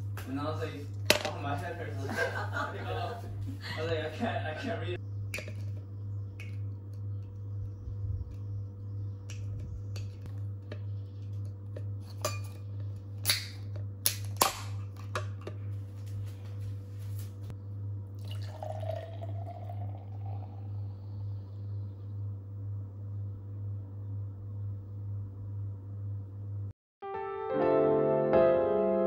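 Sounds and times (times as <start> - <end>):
low hum: 0.0 - 26.7.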